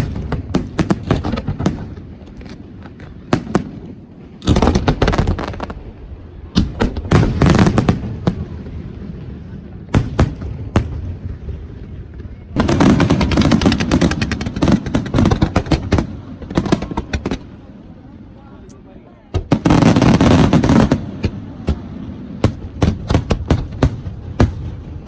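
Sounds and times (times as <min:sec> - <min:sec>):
loud firework booms: 0:00.0 - 0:17.6, 0:19.3 - 0:25.0
fireworks bangs and crackling: 0:00.0 - 0:25.0.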